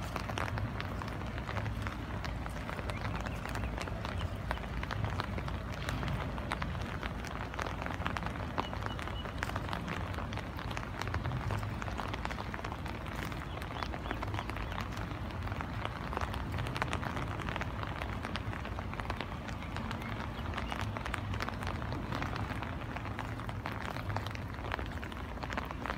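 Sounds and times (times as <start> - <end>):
rain pattering: 0.0 - 25.9.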